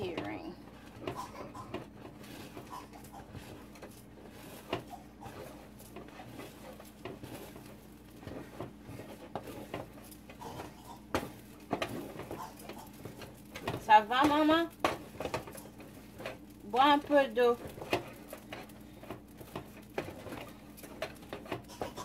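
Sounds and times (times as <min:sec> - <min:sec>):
wooden spoon scraping saucepan: 0:00.0 - 0:22.0.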